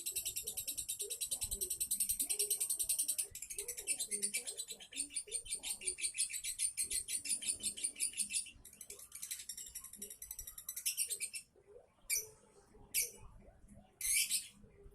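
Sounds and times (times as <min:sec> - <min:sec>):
lovebird high-pitched chatter: 0:00.0 - 0:13.2, 0:14.0 - 0:14.6.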